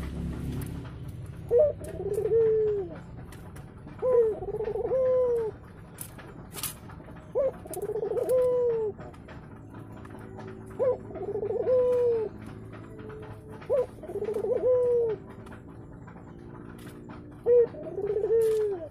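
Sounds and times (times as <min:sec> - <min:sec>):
dove cooing and trilling: 0:00.0 - 0:18.9.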